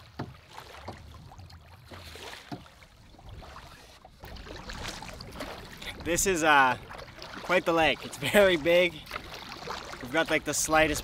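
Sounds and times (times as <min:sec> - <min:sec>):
waves lapping against canoe hull: 0:00.0 - 0:11.0.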